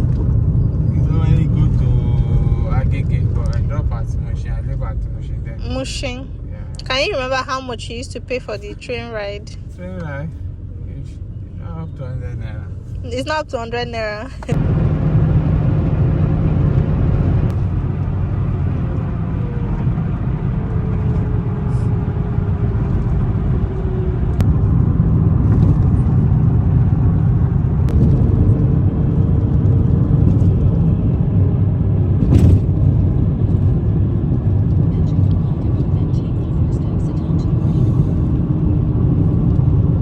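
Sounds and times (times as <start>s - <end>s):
car road and engine rumble: 0.0s - 40.0s.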